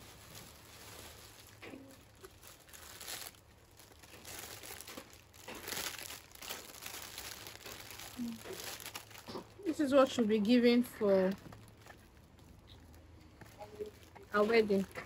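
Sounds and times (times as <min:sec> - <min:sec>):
plastic bag crinkling and rustling: 0:00.0 - 0:15.0.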